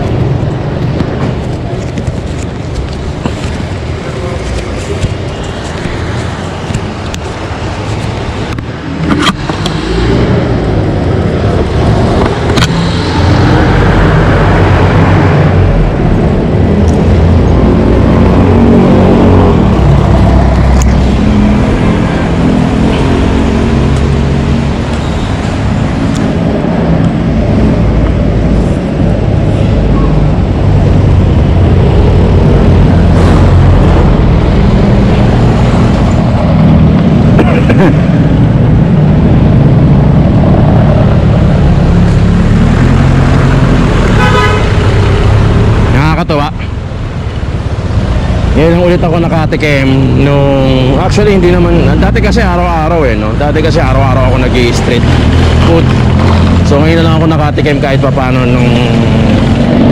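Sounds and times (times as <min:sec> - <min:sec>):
passing street traffic: 0:00.0 - 0:59.9
wind rumble on microphone: 0:00.0 - 0:59.9.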